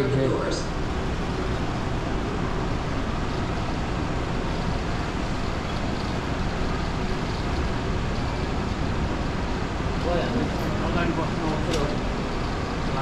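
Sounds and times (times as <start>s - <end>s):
airport tram rumble and hiss: 0.0s - 13.0s.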